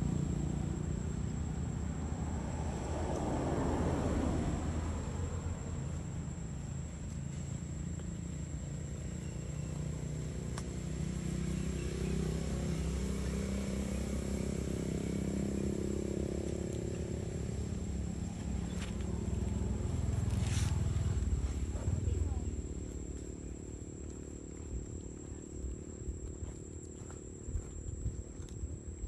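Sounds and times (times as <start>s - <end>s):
traffic engine rumble: 0.0s - 29.0s.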